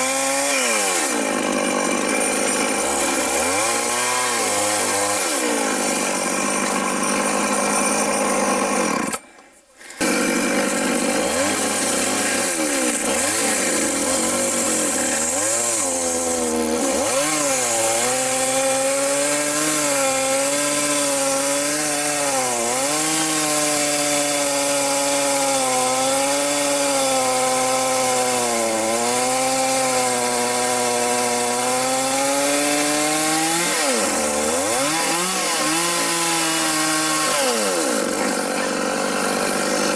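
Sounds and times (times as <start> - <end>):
chainsaw cutting at high revs: 0.0 - 39.9.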